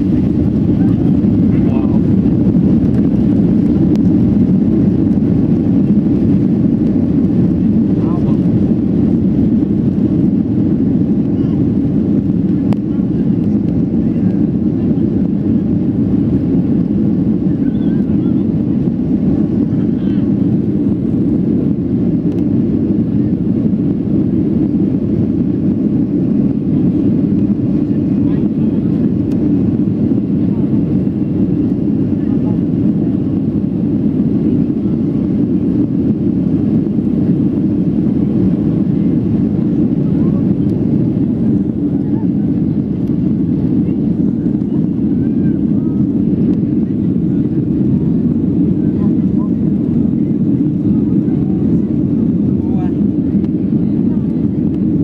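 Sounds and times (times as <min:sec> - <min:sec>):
jet engine roar in cabin: 0:00.0 - 0:55.0.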